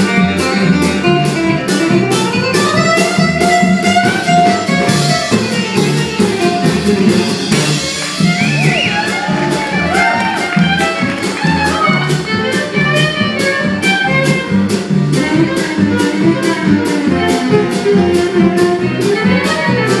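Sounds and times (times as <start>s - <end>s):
acoustic string band playing: 0.0s - 20.0s
sliding bending lead notes: 0.0s - 20.0s.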